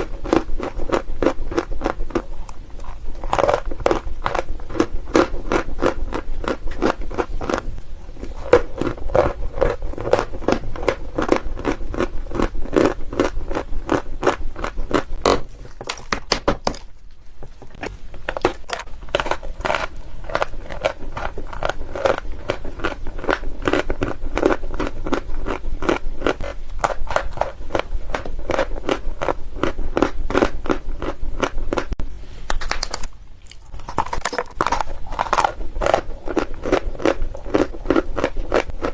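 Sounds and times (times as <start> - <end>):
crunchy chewing of chalk: 0.0 - 38.9.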